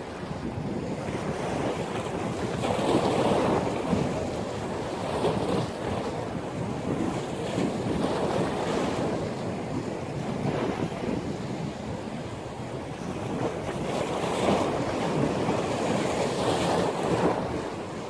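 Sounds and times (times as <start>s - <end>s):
ocean surf breaking: 0.0s - 18.0s
wind blowing across microphone: 0.0s - 18.0s.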